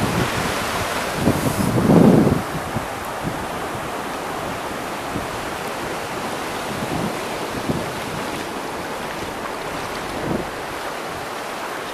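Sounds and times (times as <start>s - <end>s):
surf washing over sand: 0.0s - 11.9s
wind buffeting microphone: 0.0s - 11.9s.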